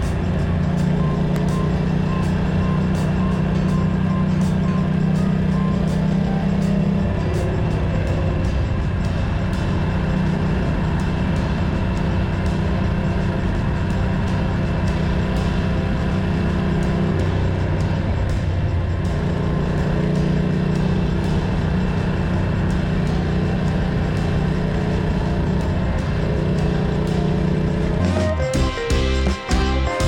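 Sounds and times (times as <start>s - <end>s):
motorcycle engine running: 0.0s - 30.0s
music: 0.0s - 30.0s.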